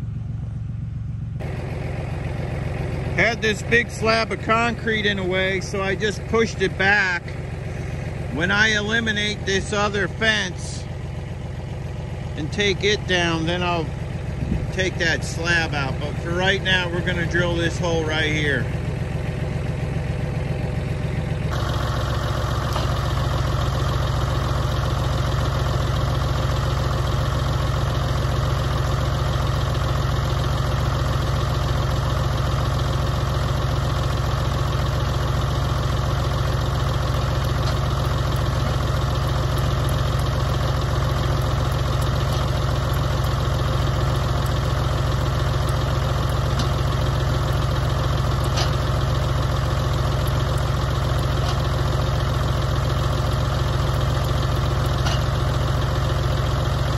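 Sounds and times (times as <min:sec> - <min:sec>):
tractor engine running under load: 0:00.0 - 0:56.9.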